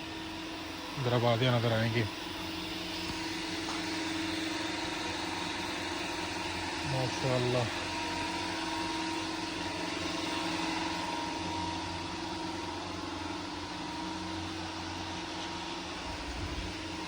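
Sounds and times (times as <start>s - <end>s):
electric fans humming: 0.0s - 17.0s.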